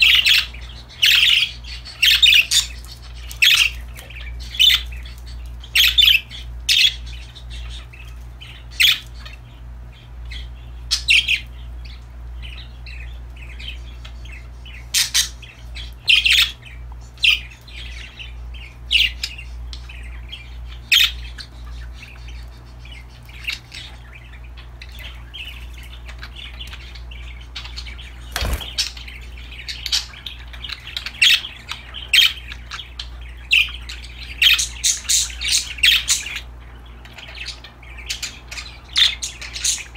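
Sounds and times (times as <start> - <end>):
budgerigars chirping and squawking: 0.0 - 39.9
steady low hum: 0.0 - 39.9.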